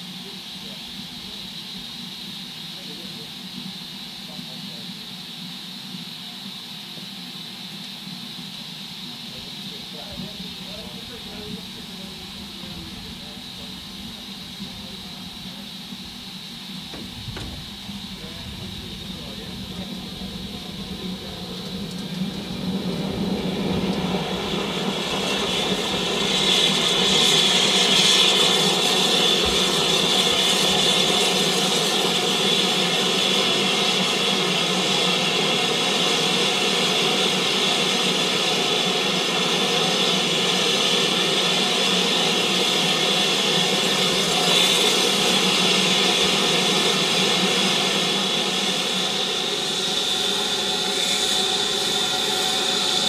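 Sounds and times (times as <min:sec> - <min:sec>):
steam hissing from locomotive: 0:00.0 - 0:53.0.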